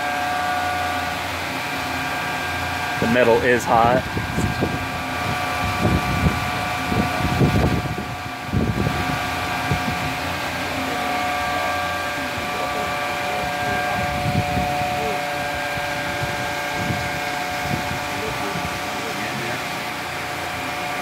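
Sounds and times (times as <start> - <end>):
low rumbles: 0.0 - 10.2, 11.0 - 20.0
vacuum pump and fans humming: 0.0 - 21.0
whining tones: 0.0 - 21.0.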